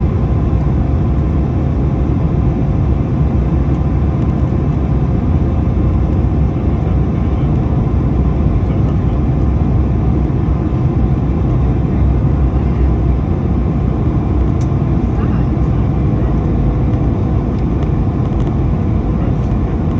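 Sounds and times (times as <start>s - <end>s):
jet engines low rumble: 0.0s - 19.9s.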